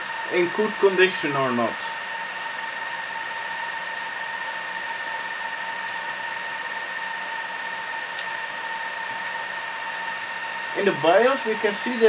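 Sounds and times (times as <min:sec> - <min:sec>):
server fans rushing and whining: 0:00.0 - 0:12.0.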